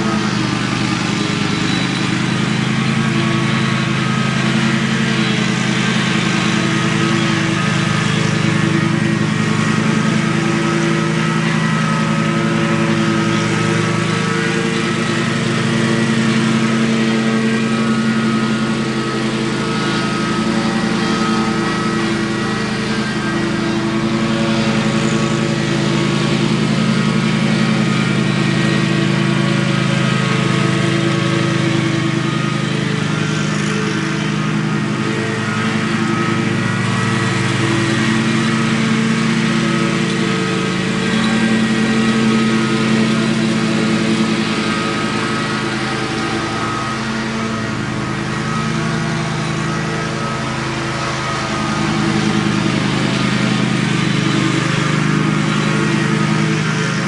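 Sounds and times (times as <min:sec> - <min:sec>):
mower engine hum: 0:00.0 - 0:57.0
spinning mower blades rushing: 0:00.0 - 0:57.0.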